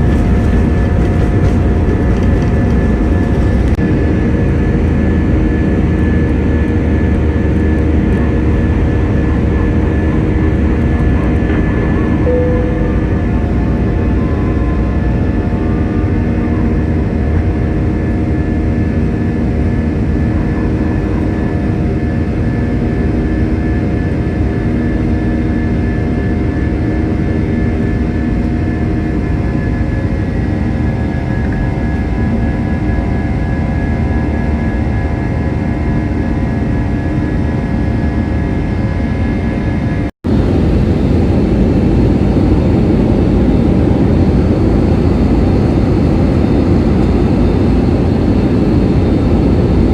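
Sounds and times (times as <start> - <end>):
jet engine and airflow rumble: 0.0 - 49.9
steady whining tones: 0.0 - 49.9.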